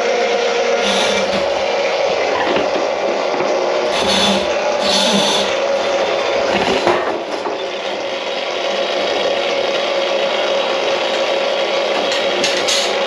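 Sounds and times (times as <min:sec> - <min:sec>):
small motor humming: 0:00.0 - 0:12.7.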